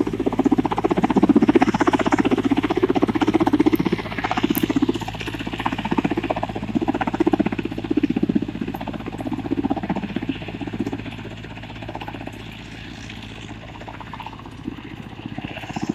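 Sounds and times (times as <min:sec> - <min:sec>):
helicopter engine hum: 0:00.0 - 0:15.9
helicopter rotor beating: 0:00.0 - 0:15.9.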